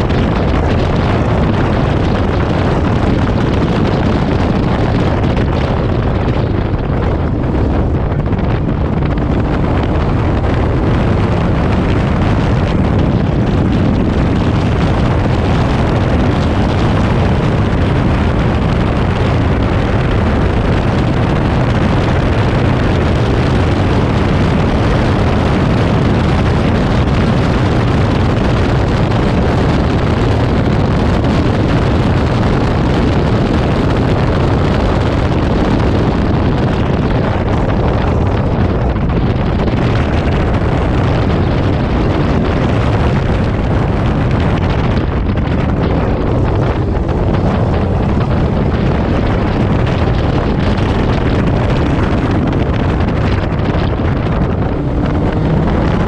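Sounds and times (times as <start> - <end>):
sports car engine running hard: 0.0 - 56.0
wind buffeting microphone: 0.0 - 56.0.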